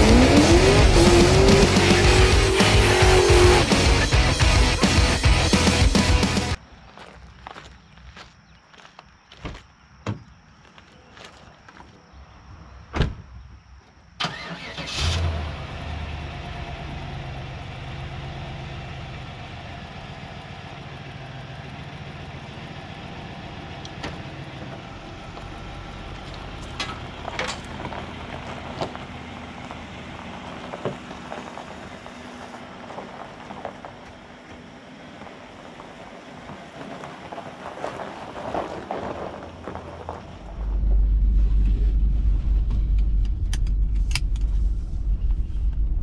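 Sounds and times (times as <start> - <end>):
car engine starting and idling: 0.0 - 6.6, 14.2 - 46.0.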